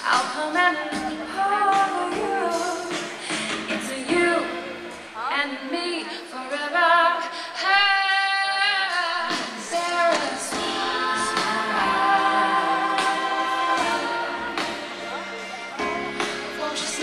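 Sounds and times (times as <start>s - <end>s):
woman singing soul ballad: 0.0s - 15.2s, 16.1s - 17.0s
live band accompaniment: 0.0s - 17.0s.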